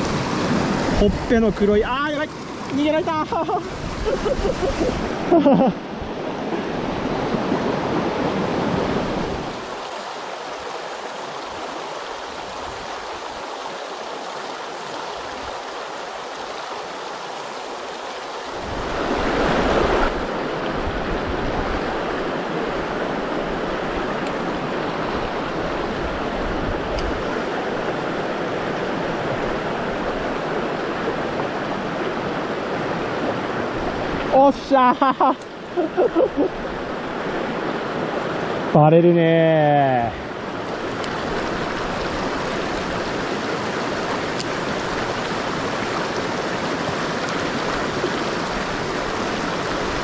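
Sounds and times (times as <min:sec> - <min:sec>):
rushing mountain stream: 0:00.0 - 0:50.0.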